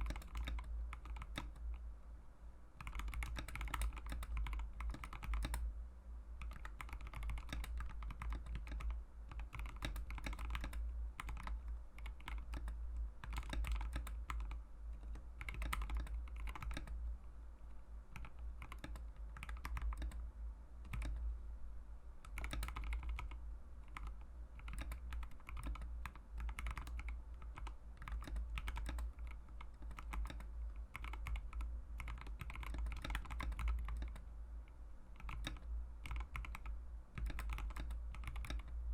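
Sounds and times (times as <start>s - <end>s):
mechanical keyboard typing: 0.0s - 1.8s, 2.8s - 5.6s, 6.4s - 17.0s, 18.1s - 20.2s, 20.8s - 21.2s, 22.2s - 34.2s, 35.2s - 38.7s
steady low hum: 0.0s - 38.9s.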